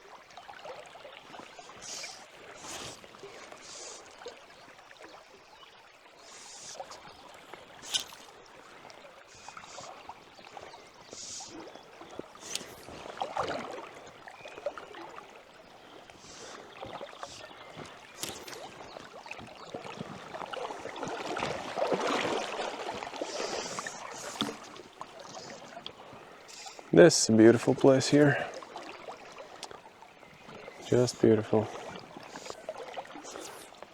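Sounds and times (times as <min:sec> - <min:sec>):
river water rushing and sloshing: 0:00.0 - 0:33.9.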